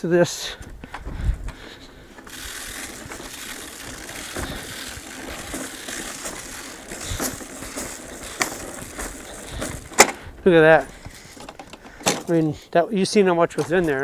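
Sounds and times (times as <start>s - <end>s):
spreader gearing clicking and rattling: 0.4s - 14.0s.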